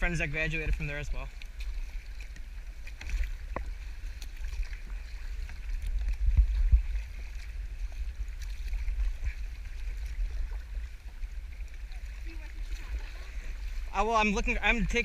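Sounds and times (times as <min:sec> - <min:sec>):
water lapping and splashing: 0:00.0 - 0:15.0.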